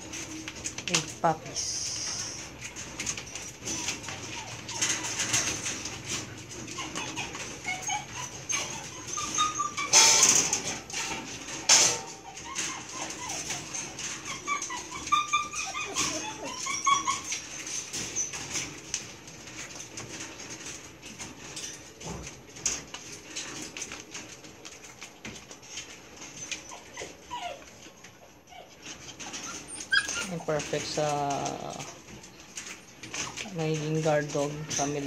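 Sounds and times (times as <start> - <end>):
puppies whining: 0.0 - 35.0.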